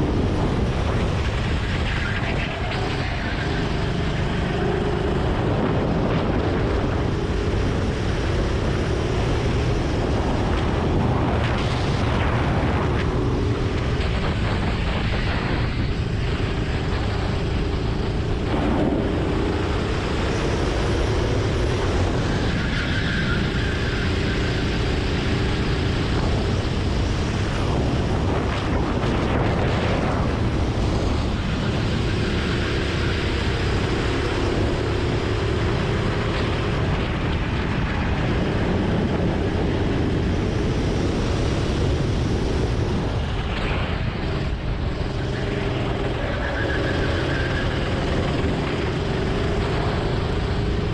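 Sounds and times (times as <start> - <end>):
road rumble: 0.0 - 50.9
wind: 0.0 - 50.9.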